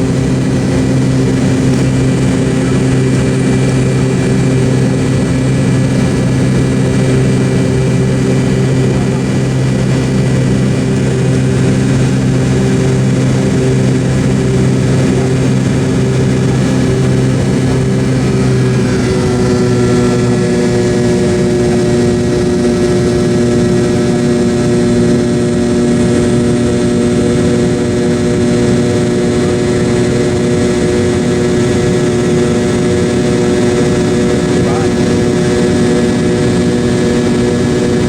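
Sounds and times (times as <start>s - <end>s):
jet engines in cabin: 0.0s - 38.0s.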